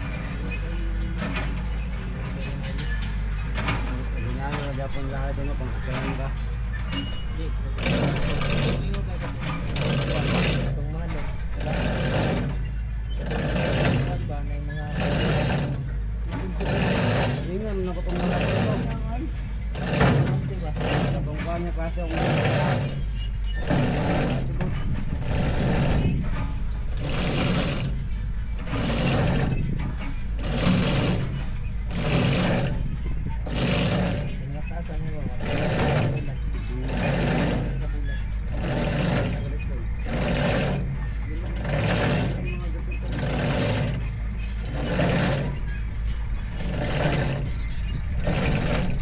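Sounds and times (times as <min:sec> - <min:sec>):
rhythmic rasping: 0:07.4 - 0:49.0
machine humming: 0:07.6 - 0:49.0.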